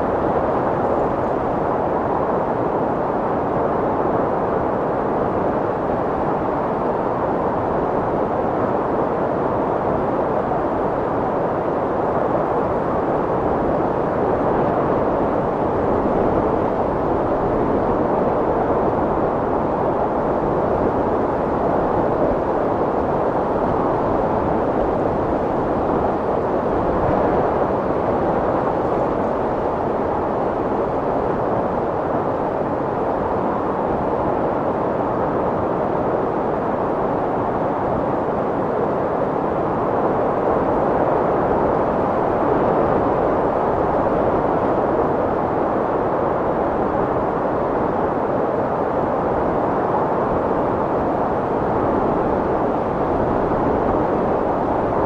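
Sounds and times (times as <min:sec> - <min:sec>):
strong wind blowing: 0:00.0 - 0:55.0.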